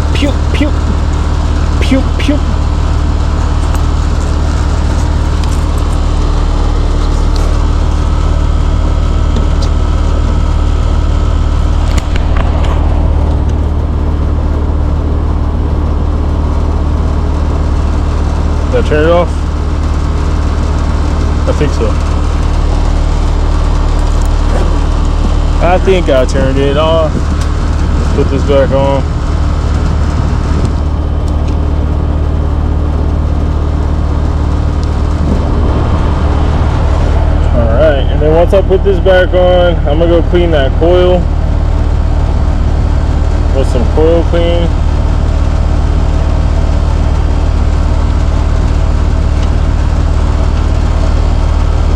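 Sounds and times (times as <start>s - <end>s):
air conditioner humming: 0.0s - 51.9s.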